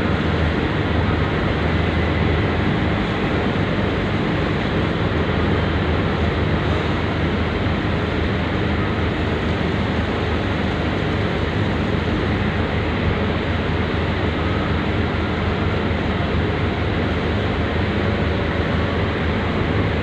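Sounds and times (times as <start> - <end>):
ship engines droning: 0.0 - 20.0.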